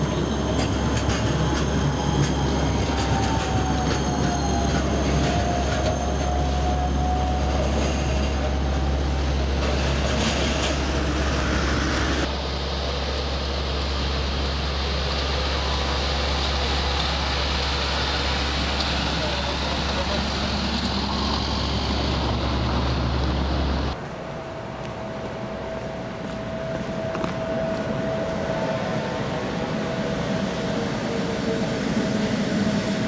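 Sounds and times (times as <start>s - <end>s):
street noise: 0.0s - 33.0s
tram wheels squealing: 0.0s - 33.0s.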